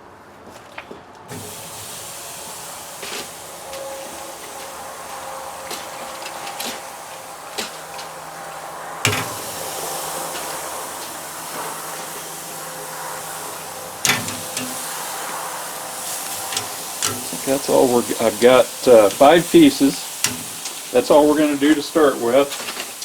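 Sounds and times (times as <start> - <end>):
steaks sizzling on a grill: 1.3 - 23.0.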